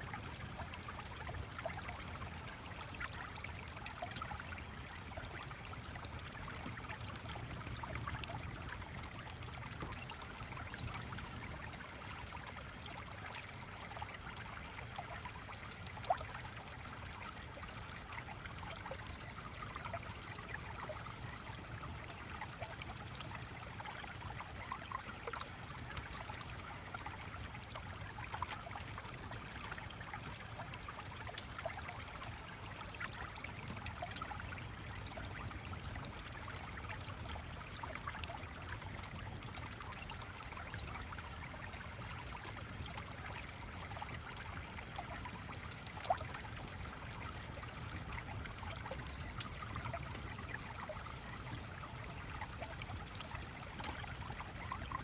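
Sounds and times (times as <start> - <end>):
stream trickling and burbling: 0.0 - 55.0.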